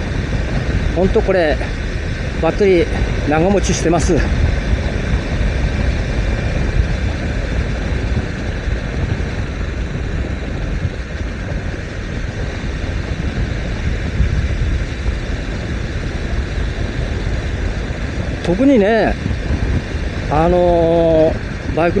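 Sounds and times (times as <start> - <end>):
motorcycle engine running: 0.0 - 22.0
wind rush: 0.0 - 22.0.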